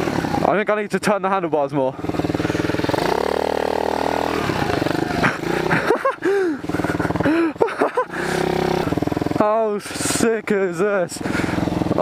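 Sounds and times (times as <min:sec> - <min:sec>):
motorbike engine revving: 0:00.0 - 0:00.7, 0:01.9 - 0:10.4, 0:11.1 - 0:12.0.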